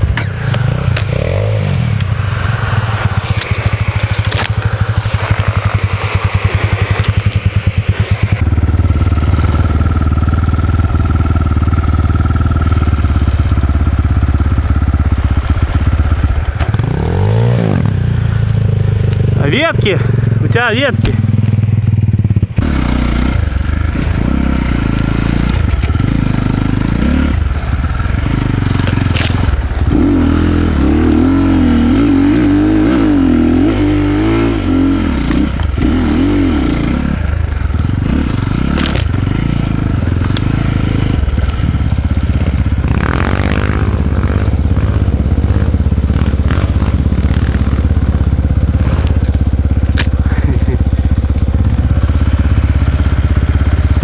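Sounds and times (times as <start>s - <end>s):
bike clattering over rough ground: 0.0s - 44.3s, 45.0s - 54.0s
dirt bike engine revving: 0.0s - 54.0s.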